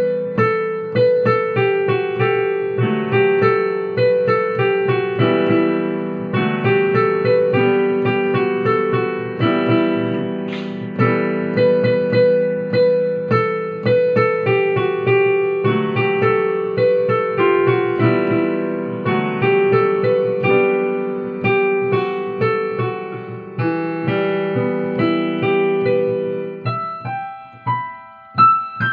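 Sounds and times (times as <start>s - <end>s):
slow flowing piano piece: 0.0s - 28.9s.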